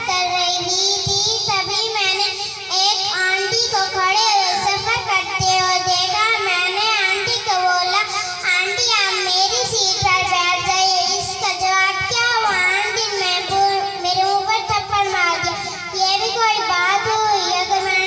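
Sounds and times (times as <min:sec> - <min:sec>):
girl singing into microphone: 0:00.0 - 0:18.0.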